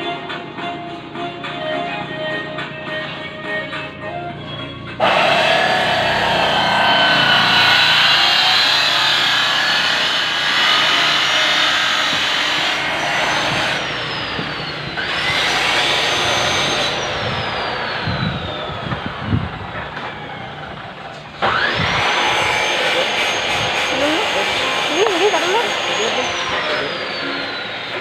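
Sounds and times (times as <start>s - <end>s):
power tool motor whining: 5.0s - 28.0s.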